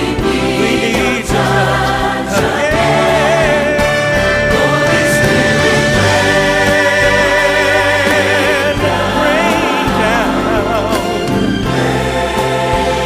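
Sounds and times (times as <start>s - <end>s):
gospel choir singing: 0.0s - 13.0s
steady bass: 0.0s - 13.0s.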